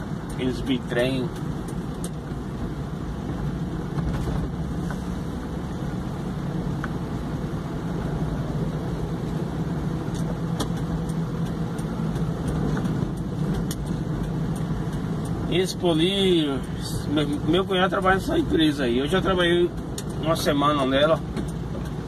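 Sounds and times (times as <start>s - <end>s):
car engine hum: 0.0s - 22.0s
tyre noise on wet road: 0.0s - 22.0s.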